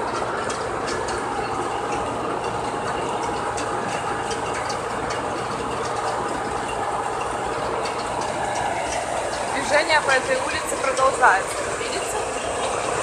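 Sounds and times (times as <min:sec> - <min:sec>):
milling machine milling asphalt: 0:00.0 - 0:13.0.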